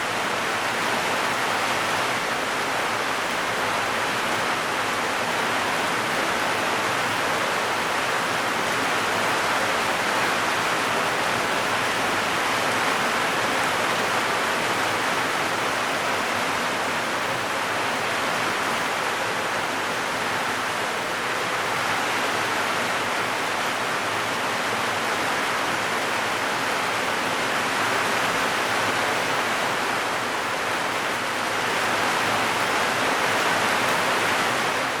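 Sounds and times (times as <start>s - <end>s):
heavy rain on a metal roof: 0.0s - 35.0s.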